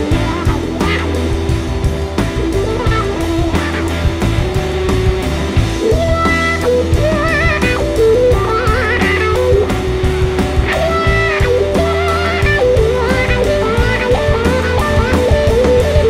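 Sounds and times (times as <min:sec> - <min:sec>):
drum kit: 0:00.0 - 0:16.0
electric guitar lead with vibrato: 0:00.0 - 0:16.0
low bass notes: 0:00.0 - 0:16.0.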